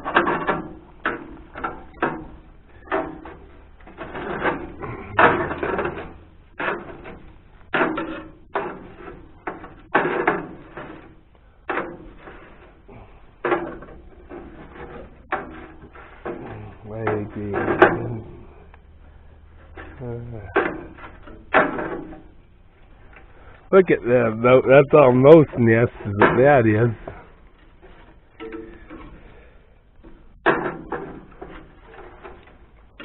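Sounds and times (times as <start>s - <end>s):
tools clattering and scraping: 0.0s - 33.0s.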